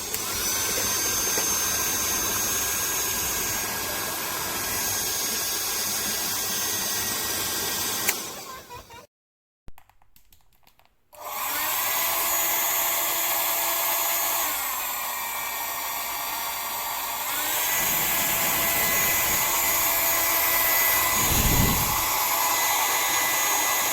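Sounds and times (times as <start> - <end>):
hair dryer blowing with motor whine: 0.0 - 8.8, 11.2 - 23.9.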